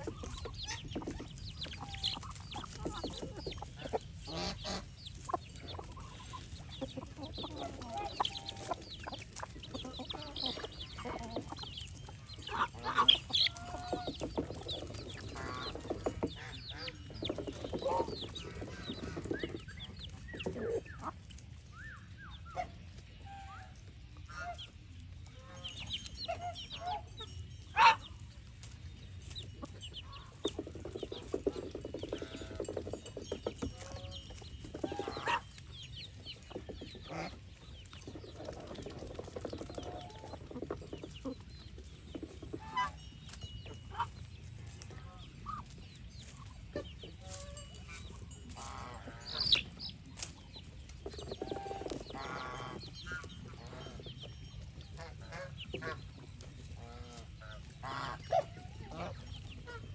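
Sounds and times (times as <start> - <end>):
poultry clucking: 0.0 - 59.9.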